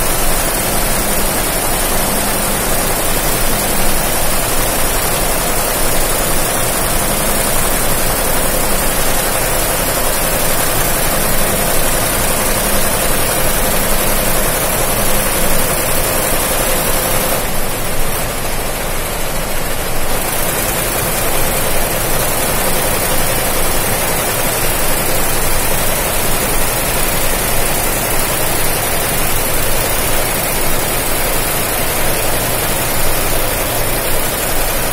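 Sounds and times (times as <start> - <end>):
embroidery machine running: 0.0 - 34.9.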